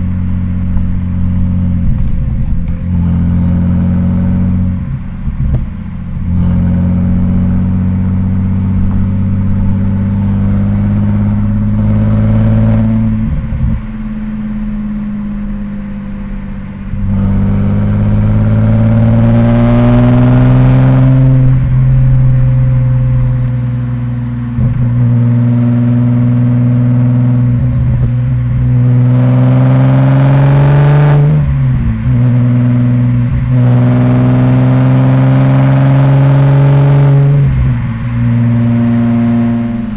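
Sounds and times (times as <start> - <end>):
car engine accelerating: 0.0 - 39.9
turbo whistle: 2.9 - 25.3, 29.0 - 39.9.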